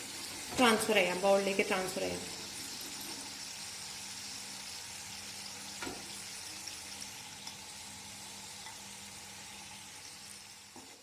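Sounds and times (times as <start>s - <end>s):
fries sizzling in hot oil: 0.0s - 11.0s.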